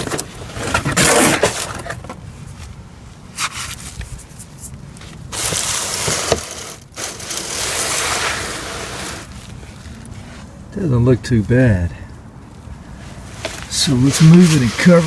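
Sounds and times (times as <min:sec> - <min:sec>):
scraping and crinkling: 0:00.0 - 0:10.6, 0:12.6 - 0:15.0.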